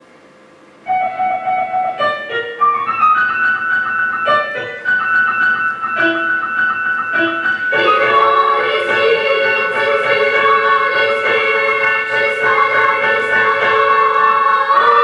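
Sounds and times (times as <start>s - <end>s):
instrumental music: 0.8s - 15.0s.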